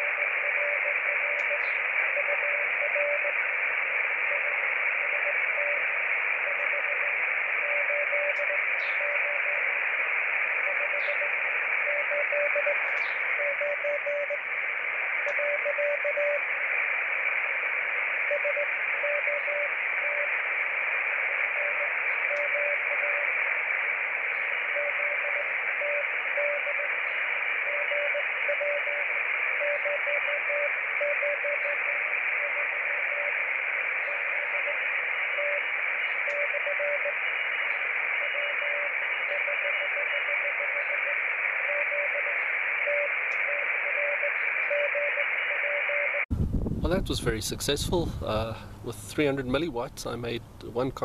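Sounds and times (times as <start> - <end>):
radio band hiss: 0.0 - 46.2, 46.8 - 51.0.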